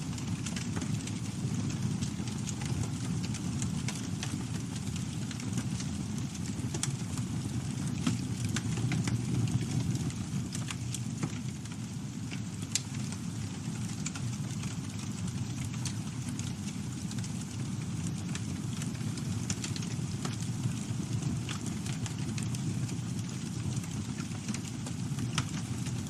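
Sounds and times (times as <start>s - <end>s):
campfire flames rumbling: 0.0s - 26.0s
fire crackling and snapping: 0.0s - 26.0s.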